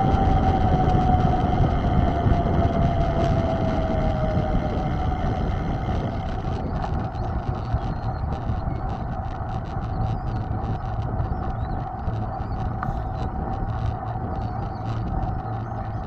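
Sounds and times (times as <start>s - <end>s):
light irregular ticks: 0.0s - 16.0s
low rumble and hum: 0.0s - 16.0s
wind on microphone: 0.0s - 16.0s.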